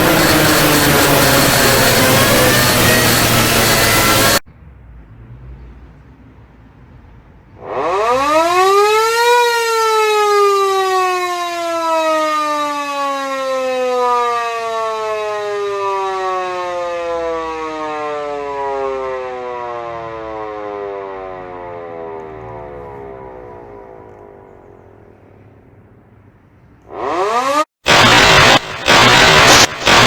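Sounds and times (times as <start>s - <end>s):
electric air-raid siren: 0.0s - 4.4s, 7.6s - 24.9s, 26.9s - 30.0s.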